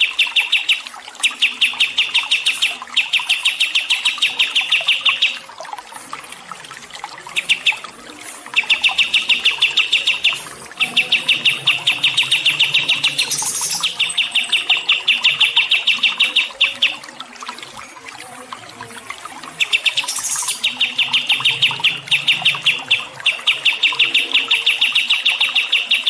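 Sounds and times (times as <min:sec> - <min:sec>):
songbird singing trills: 0:00.0 - 0:05.4, 0:07.3 - 0:07.9, 0:08.6 - 0:17.0, 0:19.5 - 0:26.0.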